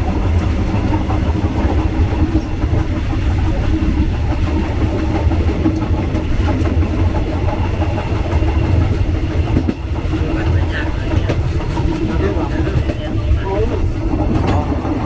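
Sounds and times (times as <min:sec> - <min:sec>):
train rumbling on rails: 0:00.0 - 0:15.0
wheels clicking: 0:00.0 - 0:15.0.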